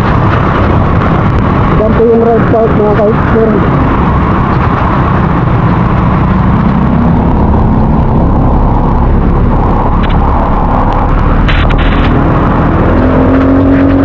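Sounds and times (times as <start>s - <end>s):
rain: 0.0s - 14.0s
road noise: 0.0s - 14.0s
vehicle engine running: 0.0s - 14.0s.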